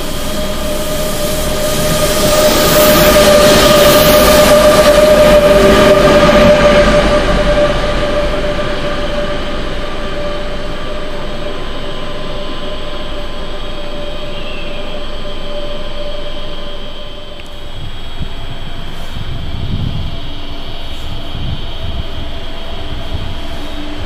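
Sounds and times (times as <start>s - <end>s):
freight train passing: 0.0s - 24.0s
steady electric whine: 0.0s - 24.0s.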